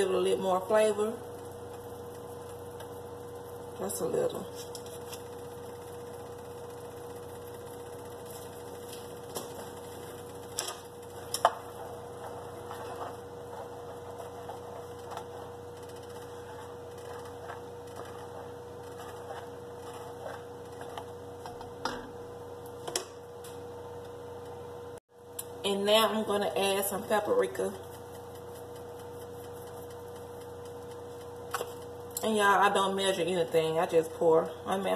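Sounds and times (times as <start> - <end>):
steady electrical hum: 0.0 - 34.9.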